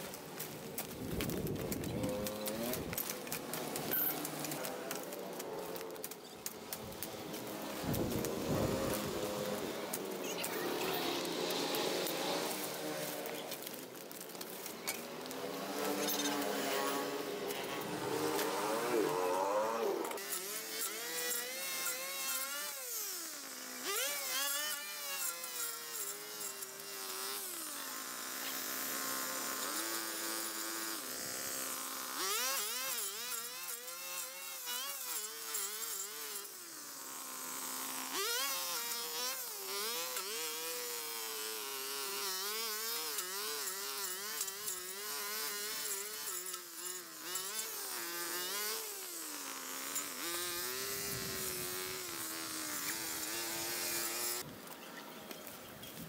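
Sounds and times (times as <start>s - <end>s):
small petrol engine revving: 0.0s - 54.5s.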